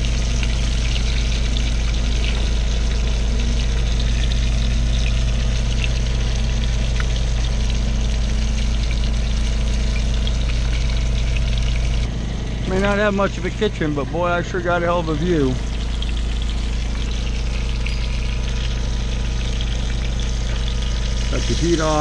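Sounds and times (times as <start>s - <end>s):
fish sizzling in oil: 0.0s - 12.1s, 15.2s - 22.0s
low machine hum: 0.0s - 22.0s.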